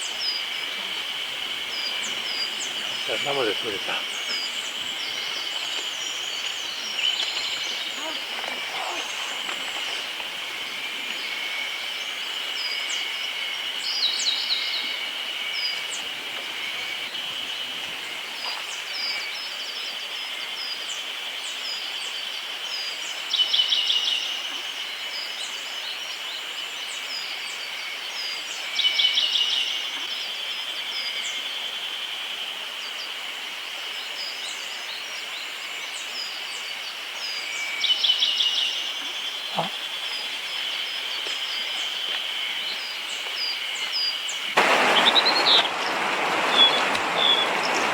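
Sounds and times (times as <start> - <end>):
songbird trill: 0.0 - 32.1, 33.9 - 47.9.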